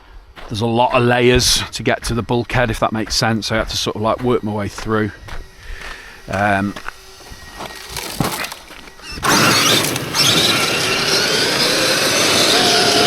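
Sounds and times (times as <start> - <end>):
electric motor whine: 0.0 - 13.0
tyre and drivetrain rush: 0.0 - 13.0.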